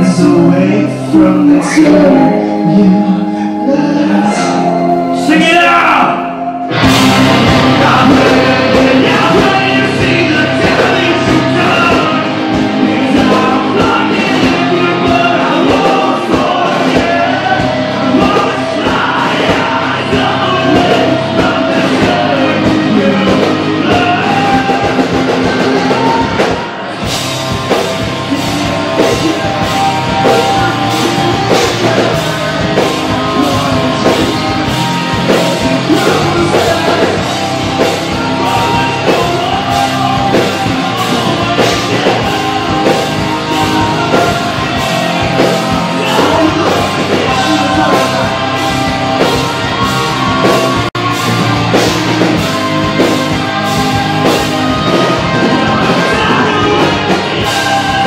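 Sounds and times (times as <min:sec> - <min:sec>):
person singing: 0:00.0 - 0:58.0
rock band playing loudly: 0:00.0 - 0:58.0.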